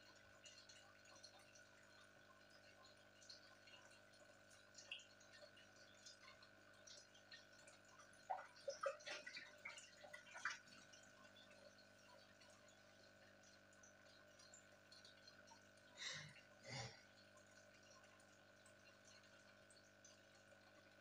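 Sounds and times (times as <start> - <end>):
faint steady hum: 0.0 - 21.0
aquarium bubbler popping: 0.4 - 21.0.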